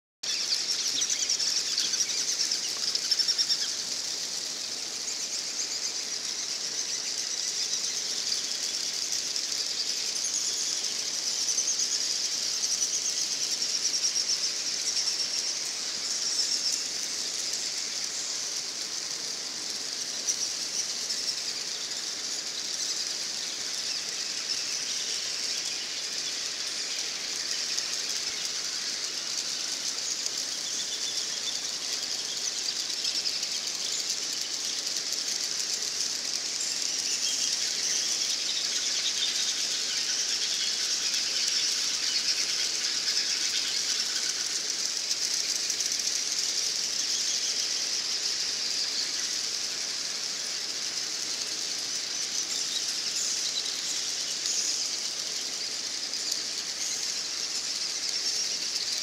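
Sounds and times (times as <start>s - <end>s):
birds and bats clicking calling: 0.2s - 59.0s.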